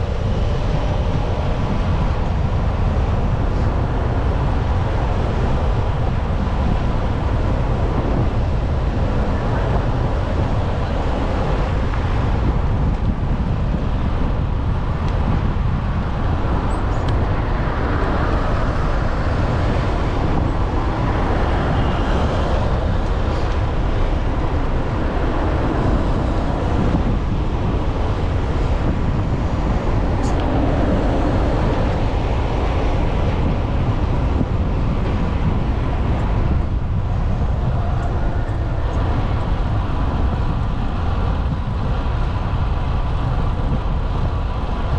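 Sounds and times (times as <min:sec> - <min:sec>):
city street traffic: 0:00.0 - 0:44.9
wind buffeting microphone: 0:00.0 - 0:44.9.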